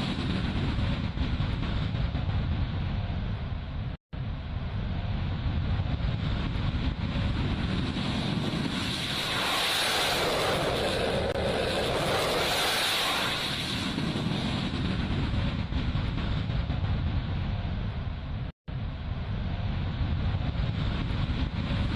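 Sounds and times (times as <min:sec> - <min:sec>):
fighter jet engine rumbling: 0:00.0 - 0:21.9.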